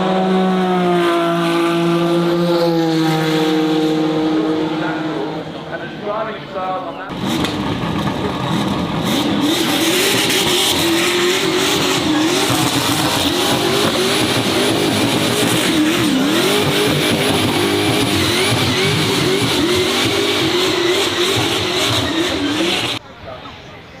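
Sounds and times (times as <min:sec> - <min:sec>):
racing car engine at high revs: 0:00.0 - 0:06.4, 0:07.1 - 0:23.0.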